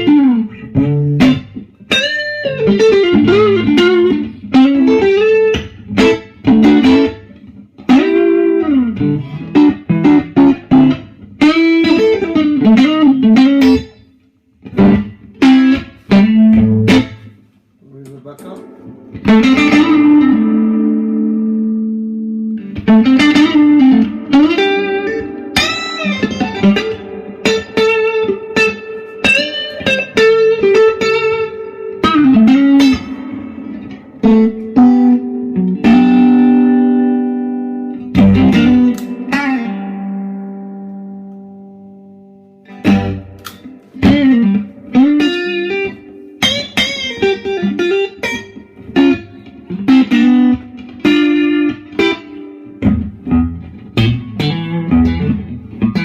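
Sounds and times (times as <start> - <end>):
electric guitar notes and chords: 0.0 - 17.5, 18.2 - 56.0.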